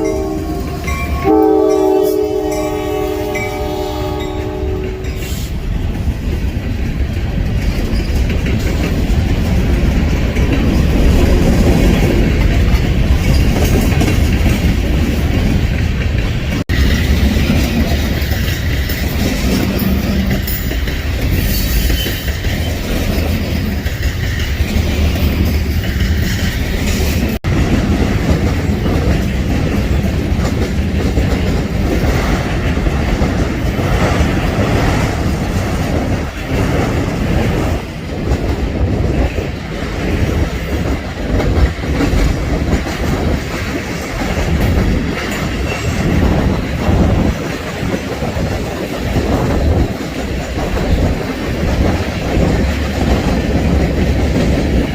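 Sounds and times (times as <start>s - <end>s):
rumble of freight cars: 0.0s - 54.9s
train wheels clacking over rail joints: 3.3s - 54.9s.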